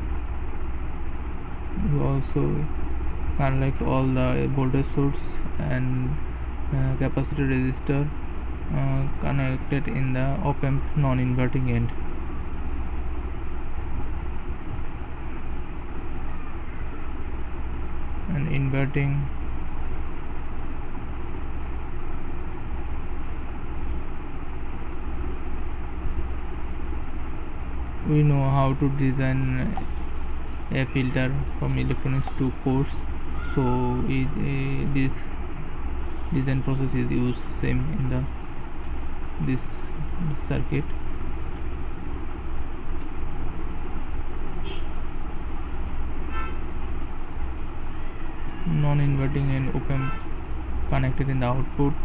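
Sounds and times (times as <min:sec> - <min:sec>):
background hum and hiss: 0:00.0 - 0:52.0
rumbling background noise: 0:00.0 - 0:52.0.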